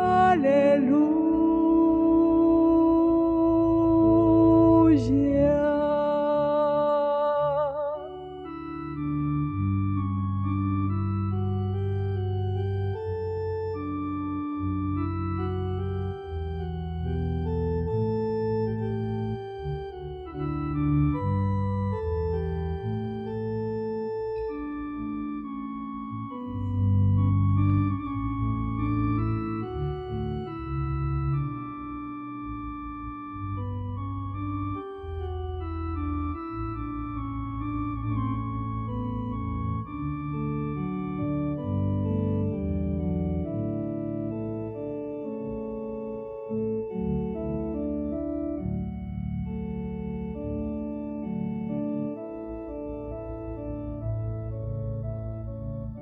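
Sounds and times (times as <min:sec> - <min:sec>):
organ playing slow chords: 0:00.0 - 0:56.0.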